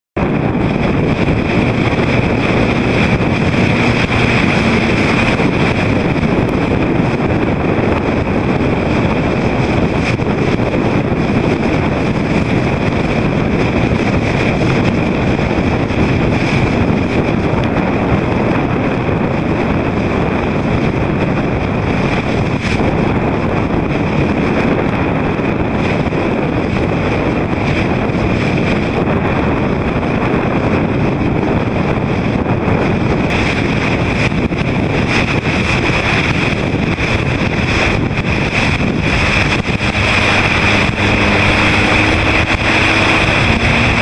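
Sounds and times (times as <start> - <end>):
waves: 0.2 - 44.0
wind buffeting microphone: 0.2 - 44.0.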